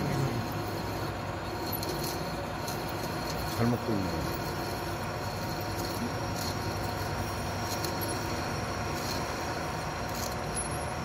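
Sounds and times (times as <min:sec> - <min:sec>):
faint high whine: 0:00.0 - 0:11.0
lathe machine hum: 0:00.0 - 0:11.0.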